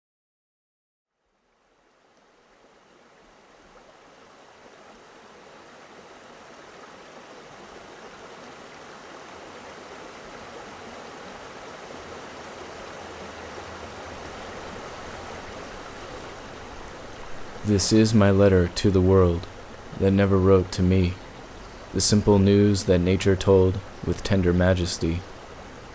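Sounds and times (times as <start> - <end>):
stream water rushing: 1.6 - 25.9.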